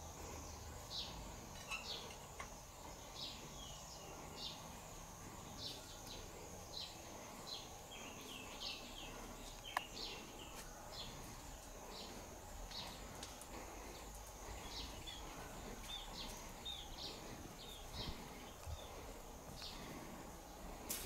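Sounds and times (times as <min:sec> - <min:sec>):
faint steady high hiss: 0:00.0 - 0:21.0
small bird chirping: 0:00.3 - 0:04.8, 0:05.4 - 0:13.2, 0:14.0 - 0:20.0.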